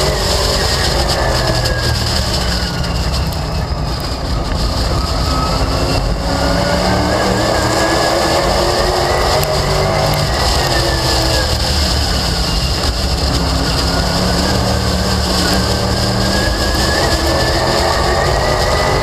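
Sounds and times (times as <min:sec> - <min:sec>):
race car engine running hard: 0:00.0 - 0:19.0
road noise: 0:00.0 - 0:19.0
wind noise: 0:00.0 - 0:19.0.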